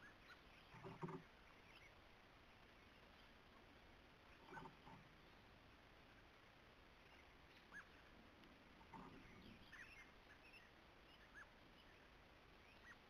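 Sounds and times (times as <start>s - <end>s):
faint bird chirps: 0.0s - 3.5s, 4.2s - 6.3s, 7.0s - 8.2s, 8.8s - 13.0s.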